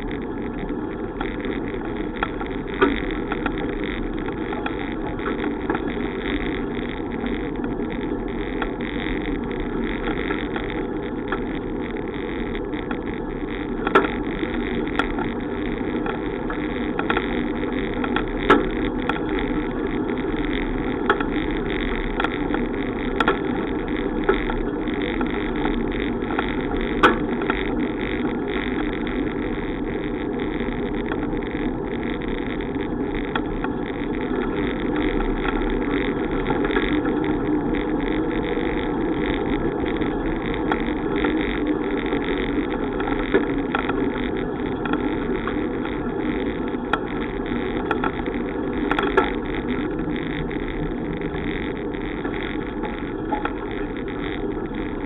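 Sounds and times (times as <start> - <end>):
sharp clicks and rattles: 0.0 - 55.0
wind and tyre noise: 0.0 - 55.0.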